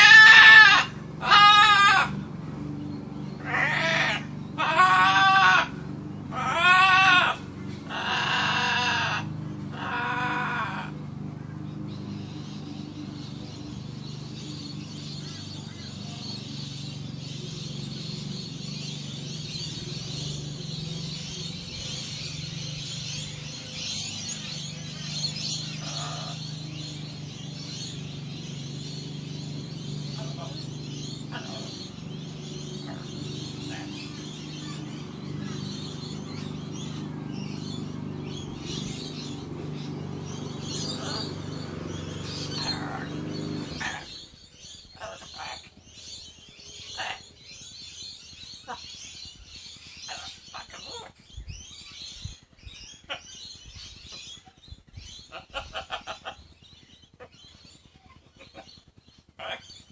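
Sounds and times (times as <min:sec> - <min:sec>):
low hum: 0:00.0 - 0:50.5
birds chirping: 0:00.0 - 0:59.9.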